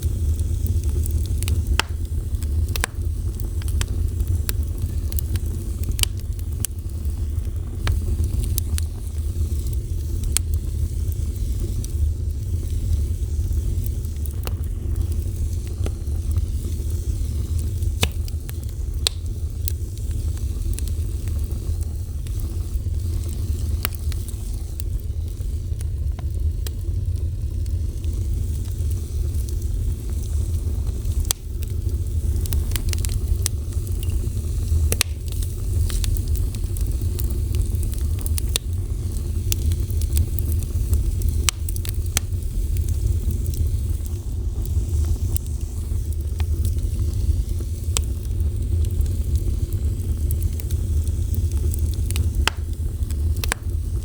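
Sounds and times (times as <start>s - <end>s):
fire crackles and pops: 0.0s - 54.0s
fire rumbling: 0.0s - 54.0s.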